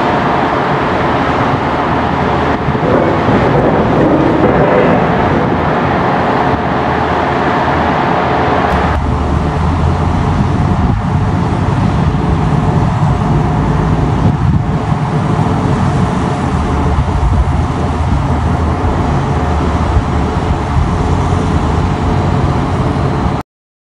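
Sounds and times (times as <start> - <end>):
boat engine and crane rumble: 0.0 - 23.4.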